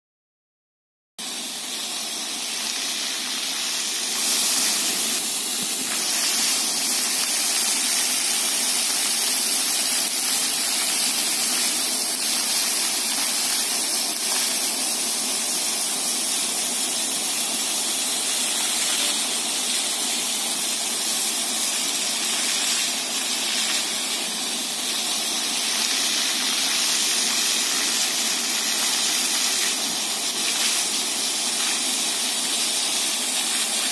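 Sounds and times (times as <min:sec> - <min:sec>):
fountain water splashing on paving: 0:01.7 - 0:33.9.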